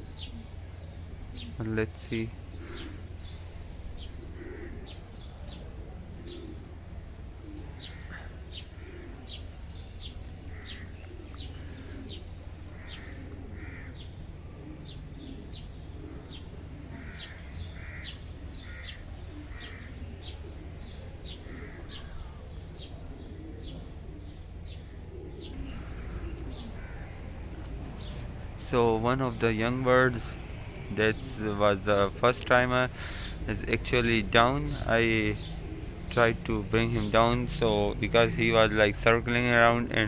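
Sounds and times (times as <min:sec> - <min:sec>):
birds chirping: 0:00.0 - 0:40.0
steady low rumble: 0:00.0 - 0:40.0.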